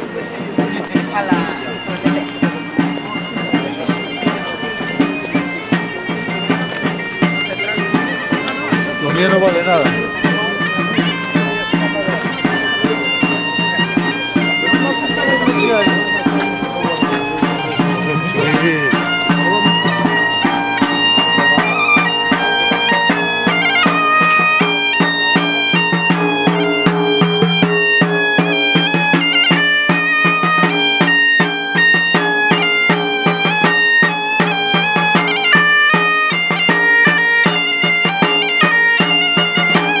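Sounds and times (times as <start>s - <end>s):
bagpipe melody over drone: 0.0s - 40.0s
side drum beating: 0.0s - 40.0s.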